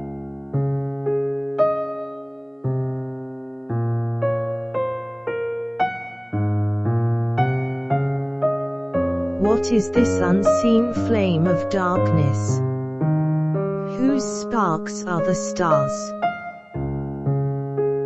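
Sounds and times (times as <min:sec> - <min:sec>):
slow solo piano piece: 0:00.0 - 0:18.0.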